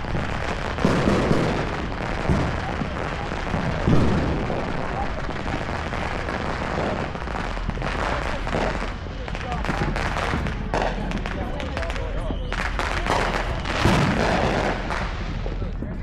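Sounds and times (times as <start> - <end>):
fireworks crackling and popping: 0.0 - 16.0
heavy firework booms: 0.0 - 16.0.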